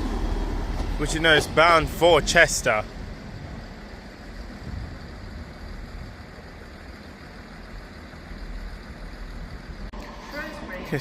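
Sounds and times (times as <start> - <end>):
train diesel engine rumbling: 0.0 - 11.0.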